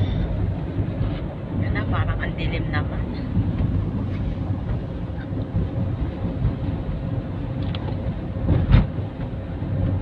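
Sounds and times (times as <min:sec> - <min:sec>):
car driving heard from inside: 0:00.0 - 0:10.0.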